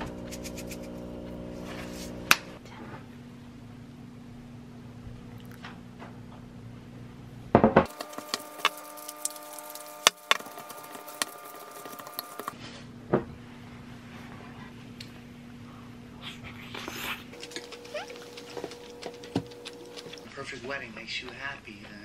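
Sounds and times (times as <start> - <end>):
low hum: 0.0 - 20.4.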